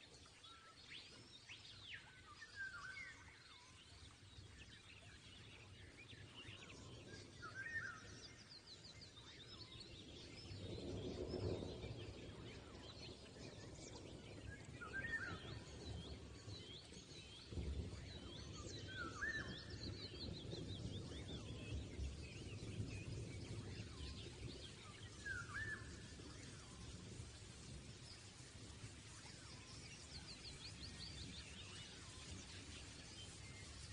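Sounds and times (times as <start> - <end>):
birds chirping: 2.0 - 33.9.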